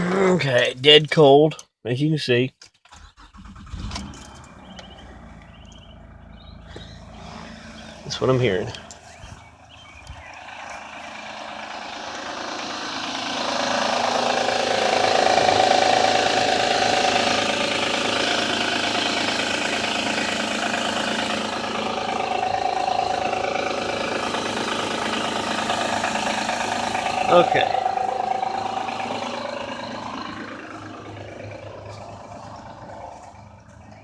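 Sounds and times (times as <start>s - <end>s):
car engine idling with rattling: 2.7s - 34.0s.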